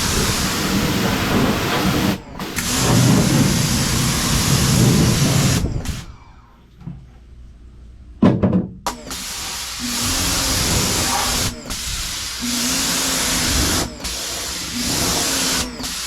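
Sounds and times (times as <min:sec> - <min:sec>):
pressure washer spraying: 0:00.0 - 0:06.1, 0:08.9 - 0:16.0.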